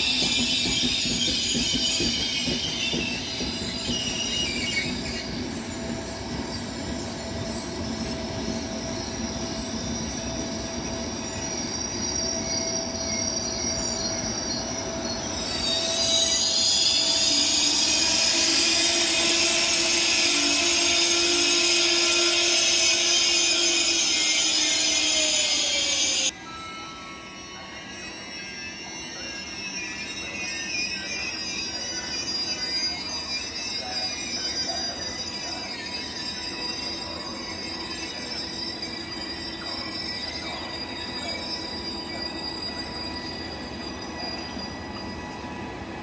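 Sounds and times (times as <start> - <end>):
train wheels squealing on rails: 0.0 - 46.0.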